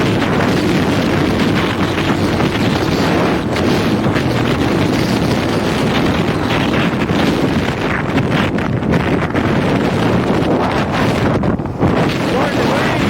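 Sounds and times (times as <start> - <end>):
dirt bike engine running: 0.0 - 13.0
wind buffeting microphone: 0.0 - 13.0.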